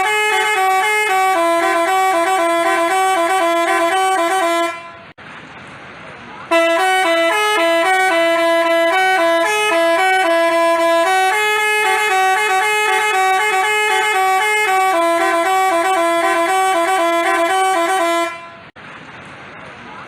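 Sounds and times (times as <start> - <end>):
multi-tone horn playing a tune: 0.0 - 5.1, 6.5 - 18.7.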